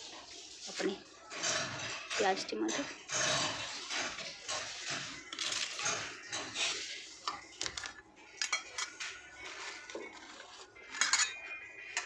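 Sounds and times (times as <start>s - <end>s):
steel cookware clinking and scraping: 0.0s - 12.0s.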